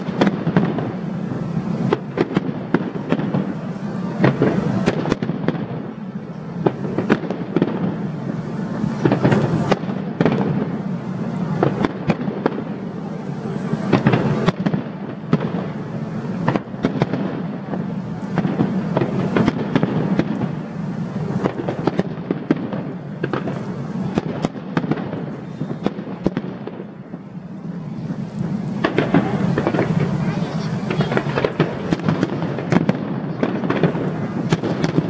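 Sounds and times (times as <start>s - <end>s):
fireworks bangs and crackling: 0.0s - 35.0s
steady rumble: 0.0s - 35.0s.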